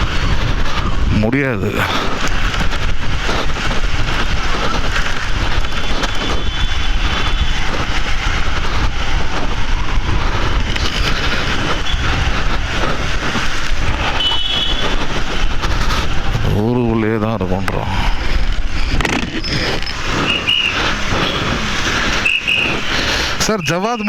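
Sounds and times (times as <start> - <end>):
wind noise on microphone: 0.0 - 24.0
motorcycle engine rumble: 1.9 - 24.0.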